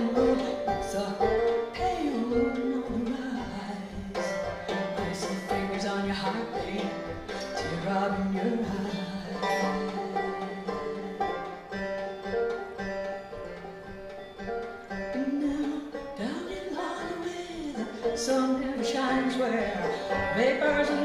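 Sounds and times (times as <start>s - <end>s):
banjo picking: 0.0s - 21.0s.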